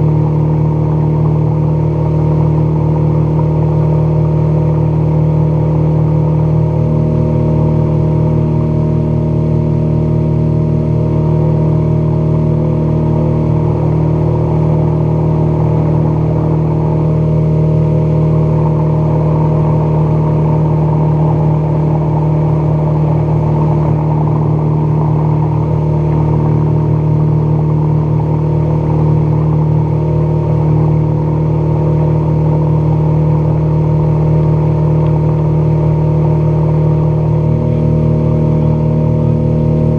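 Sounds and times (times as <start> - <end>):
outboard motor drone: 0.0 - 39.9
water rushing along hull: 0.0 - 39.9.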